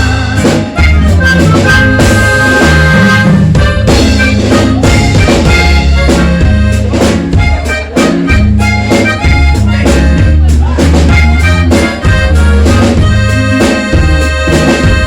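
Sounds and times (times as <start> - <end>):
accordion-like reed instrument: 0.0 - 15.0
music with beat and strong bass: 0.0 - 15.0.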